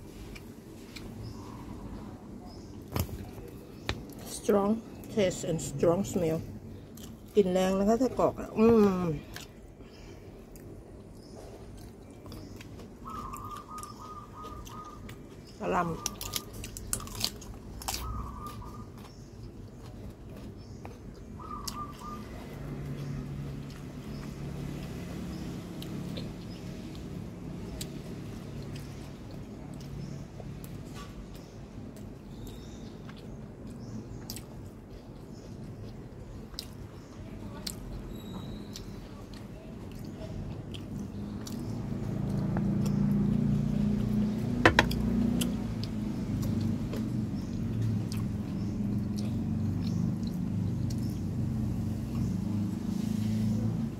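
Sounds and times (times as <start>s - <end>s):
person chewing sausage: 0.0s - 4.3s, 9.2s - 37.0s, 37.6s - 51.4s
low engine rumble: 0.0s - 53.9s.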